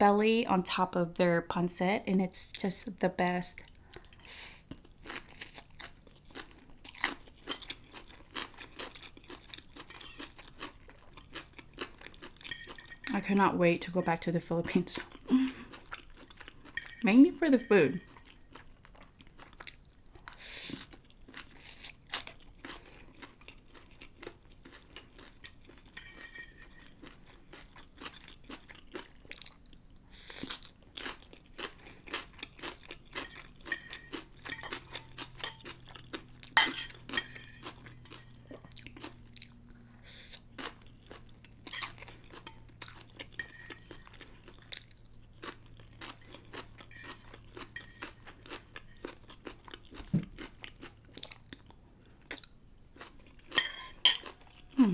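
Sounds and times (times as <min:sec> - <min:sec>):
chewing noodles: 0:03.6 - 0:13.2, 0:17.7 - 0:54.9.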